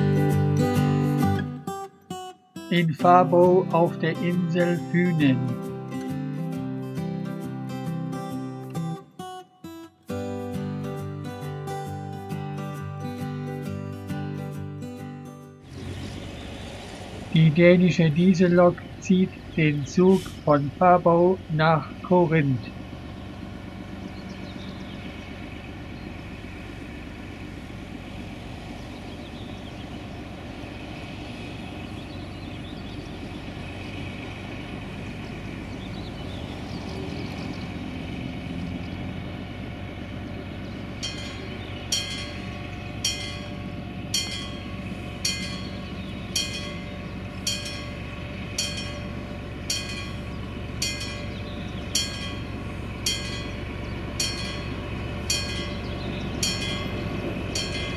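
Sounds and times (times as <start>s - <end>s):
diesel locomotive engine running: 0.0s - 1.8s, 2.7s - 9.1s, 10.0s - 57.9s.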